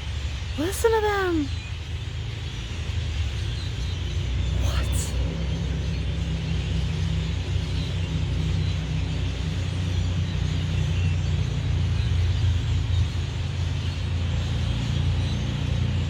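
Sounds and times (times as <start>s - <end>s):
flock of birds chattering: 0.0s - 16.0s
loud steady low rumble: 1.8s - 16.0s.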